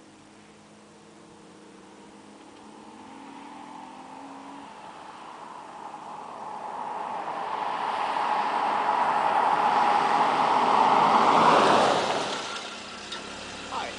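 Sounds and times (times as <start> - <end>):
car driving past at speed: 1.2 - 13.9.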